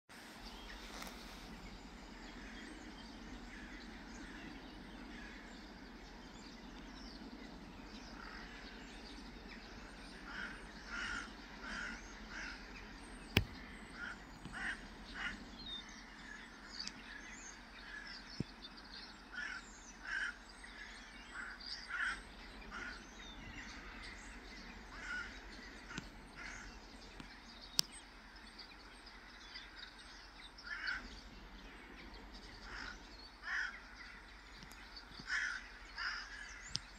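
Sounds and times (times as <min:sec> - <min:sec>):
low background rumble: 0:00.3 - 0:36.9
birds calling harshly: 0:00.4 - 0:36.9.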